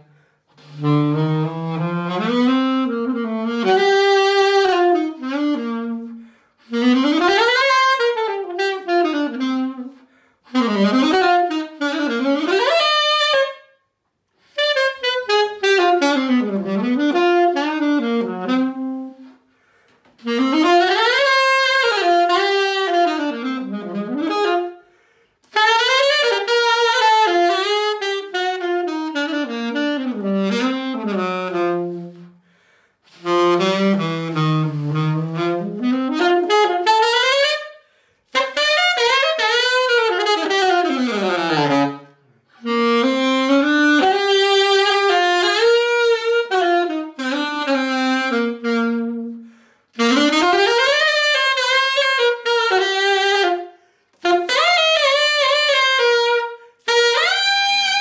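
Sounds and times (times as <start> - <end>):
solo alto saxophone melody: 0.0 - 58.0.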